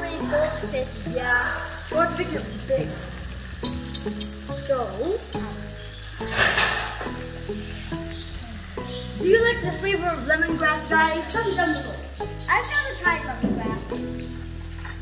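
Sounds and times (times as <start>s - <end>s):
background music: 0.0s - 15.0s
fish frying in a pan: 0.0s - 15.0s.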